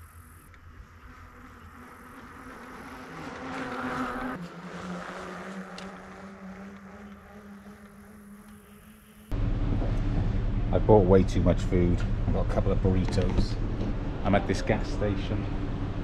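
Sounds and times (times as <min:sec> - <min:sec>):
bicycle tyres humming on asphalt: 0:00.0 - 0:16.0.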